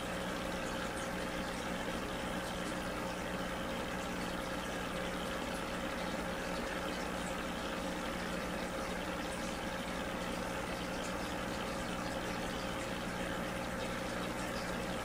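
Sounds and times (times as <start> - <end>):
bubbling water rushing: 0.0 - 15.0
low electrical hum: 0.0 - 15.0.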